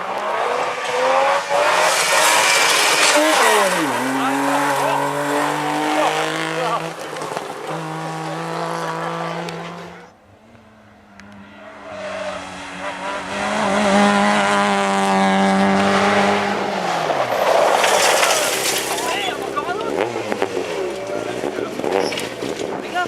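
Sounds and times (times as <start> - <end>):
rally car engine at full revs: 0.0 - 23.0.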